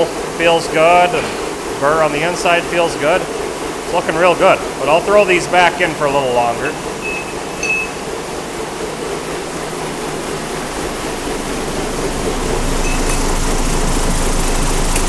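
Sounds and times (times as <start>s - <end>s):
low motor hum: 0.0s - 15.0s
tumbler media churning hiss: 0.0s - 15.0s.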